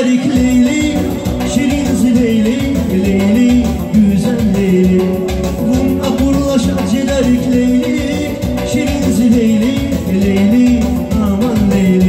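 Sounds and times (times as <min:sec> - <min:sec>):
man singing: 0:00.0 - 0:12.0
synthesizer keyboard with steady beat: 0:00.0 - 0:12.0.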